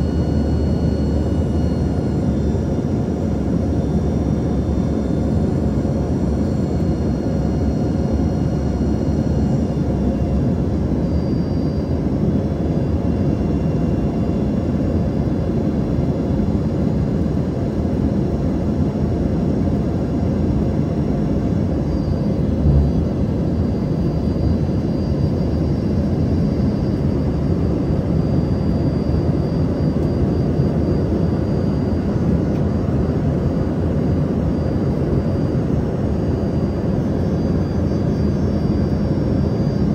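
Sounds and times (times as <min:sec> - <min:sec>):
jet cabin rumble with whining engines: 0:00.0 - 0:39.9.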